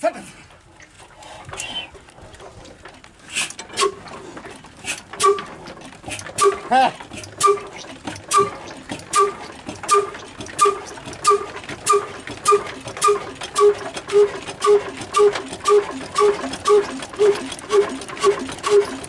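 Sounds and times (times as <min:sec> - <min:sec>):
diesel engine knocking: 0:03.7 - 0:19.0.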